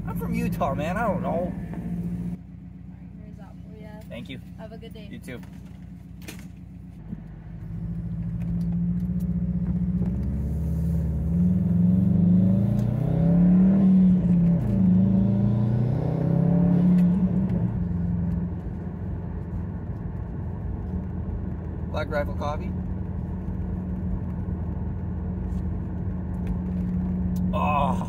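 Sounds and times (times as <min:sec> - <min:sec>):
car engine accelerating: 0:00.0 - 0:03.4, 0:05.7 - 0:28.0.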